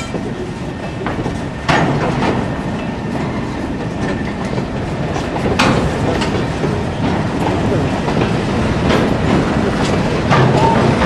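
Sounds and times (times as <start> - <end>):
low train rumble: 0.0 - 11.0
wheels clattering over rail joints: 0.0 - 11.0.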